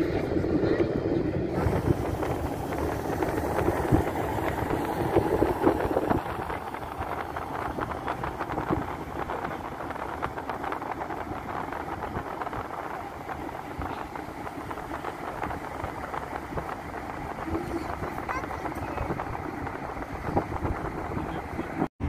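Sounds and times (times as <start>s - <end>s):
wind buffeting microphone: 0.0s - 21.9s
car road noise rumble: 0.0s - 22.0s.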